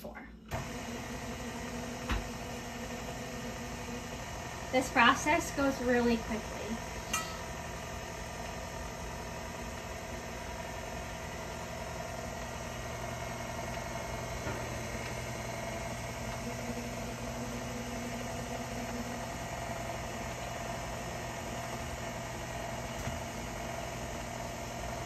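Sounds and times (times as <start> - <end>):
dough fed through pasta rollers: 0.5 - 25.0
stand mixer motor humming: 0.5 - 25.0.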